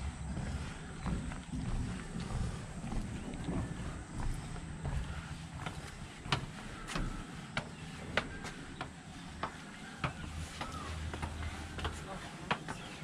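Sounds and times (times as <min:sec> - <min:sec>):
footsteps on concrete steps: 0:00.0 - 0:13.0.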